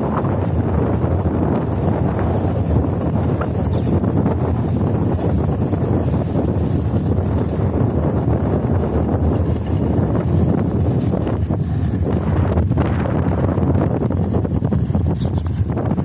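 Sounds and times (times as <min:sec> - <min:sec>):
boat engine rumble: 0:00.0 - 0:16.0
water washing: 0:00.0 - 0:16.0
wind buffeting microphone: 0:00.0 - 0:16.0.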